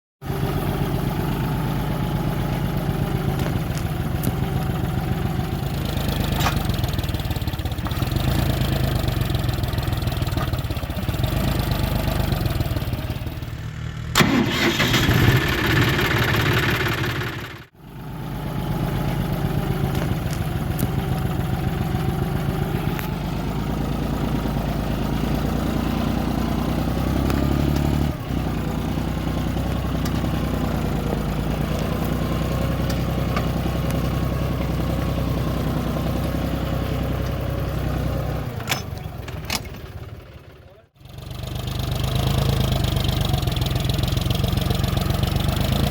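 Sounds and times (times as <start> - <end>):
tractor diesel engine running: 0.2 - 45.9.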